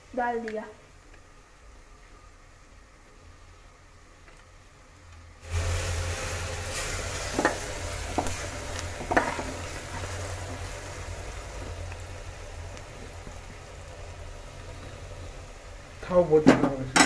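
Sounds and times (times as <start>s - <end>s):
spices sizzling in a pot: 0.0s - 17.0s.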